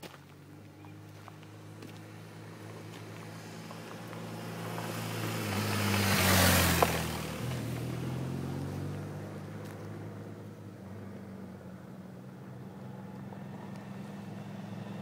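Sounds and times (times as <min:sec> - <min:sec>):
motorcycle passing on gravel: 0:00.0 - 0:15.0.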